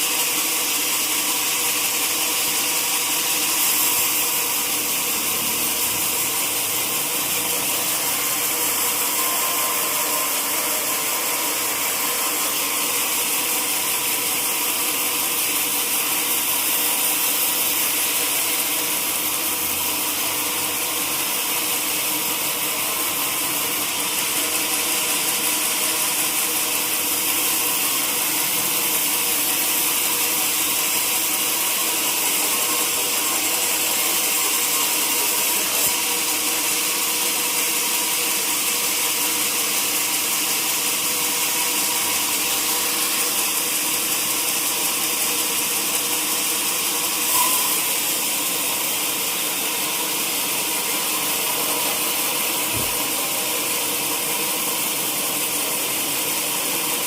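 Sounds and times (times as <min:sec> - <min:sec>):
sawmill saw hissing: 0:00.0 - 0:57.0.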